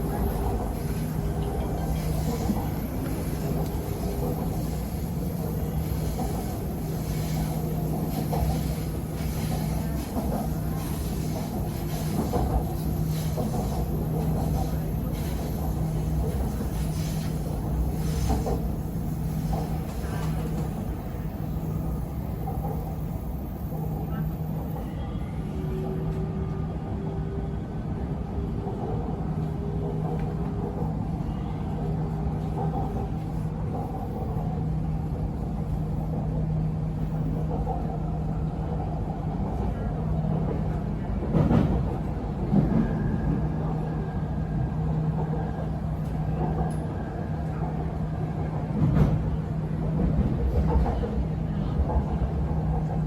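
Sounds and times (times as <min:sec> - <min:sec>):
metro train rumble: 0:00.0 - 0:53.0.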